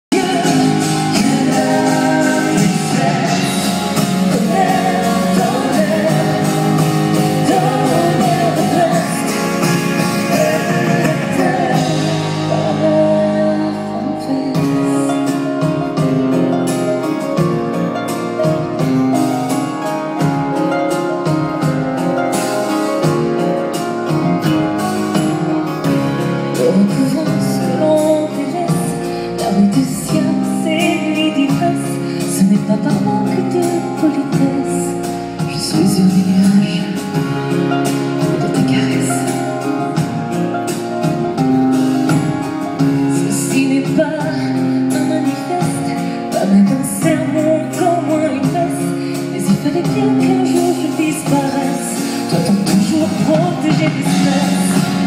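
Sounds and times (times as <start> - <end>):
person singing: 0.0 - 41.5, 42.2 - 55.0.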